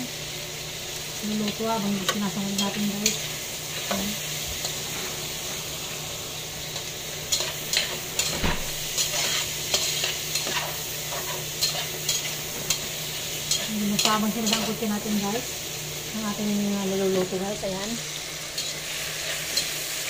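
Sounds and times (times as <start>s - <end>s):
meat sizzling in a pot: 0.0s - 20.0s.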